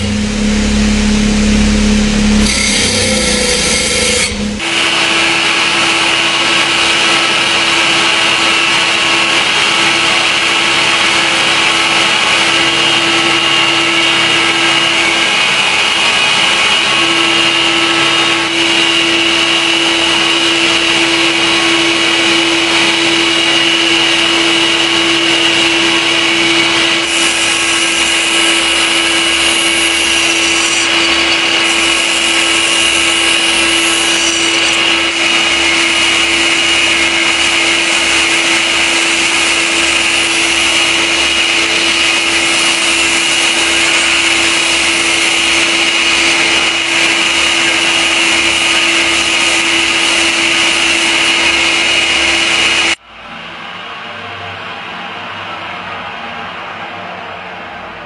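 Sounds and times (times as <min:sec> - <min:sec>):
electric power tool grinding: 0:00.0 - 0:53.0.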